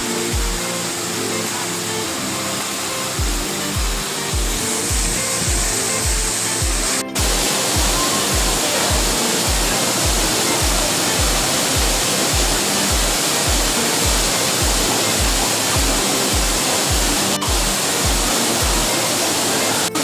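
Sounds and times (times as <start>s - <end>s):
music with bass beat: 0.0s - 2.0s, 3.2s - 20.0s
waterfall rushing: 0.0s - 20.0s.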